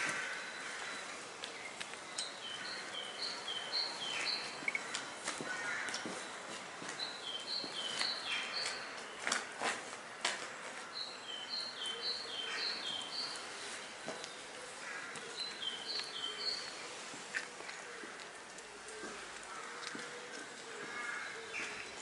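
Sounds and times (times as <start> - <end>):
footsteps on wet stone: 0.0 - 11.0, 12.9 - 22.0.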